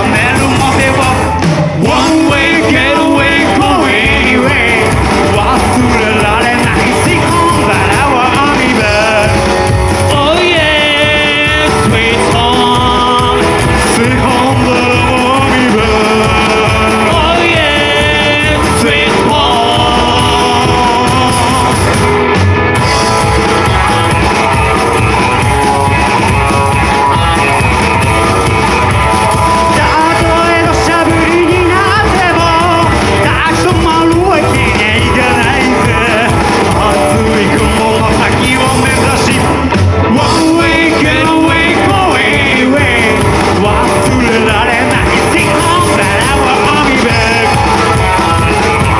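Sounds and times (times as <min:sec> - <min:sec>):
person singing: 0:00.0 - 0:48.9
rockabilly band playing live: 0:00.0 - 0:48.9.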